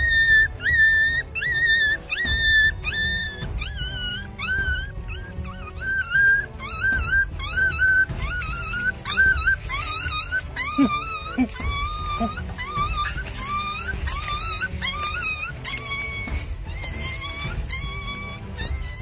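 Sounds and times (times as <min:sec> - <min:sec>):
puppies whining and crying: 0:00.0 - 0:19.0.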